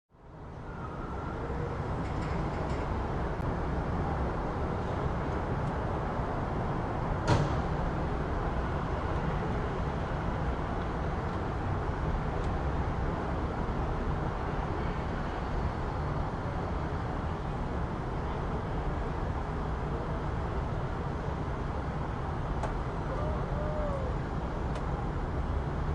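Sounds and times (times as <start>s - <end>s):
road traffic rumble: 0.1s - 25.9s.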